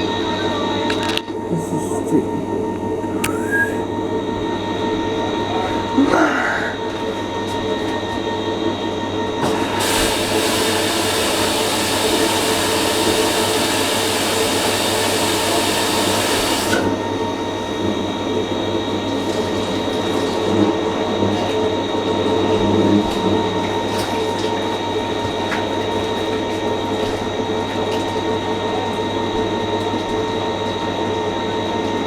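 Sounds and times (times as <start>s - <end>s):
washing machine humming: 0.0s - 32.0s.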